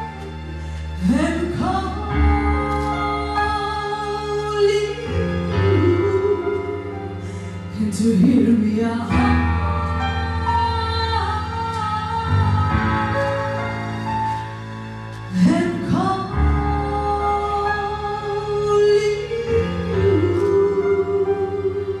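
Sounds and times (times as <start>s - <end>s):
woman singing: 1.0s - 14.1s, 15.3s - 22.0s.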